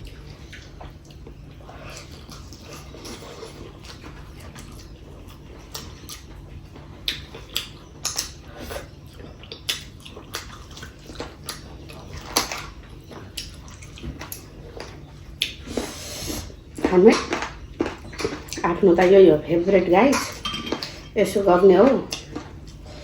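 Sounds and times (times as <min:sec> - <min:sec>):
wet chewing: 0:00.0 - 0:19.2, 0:21.8 - 0:23.0.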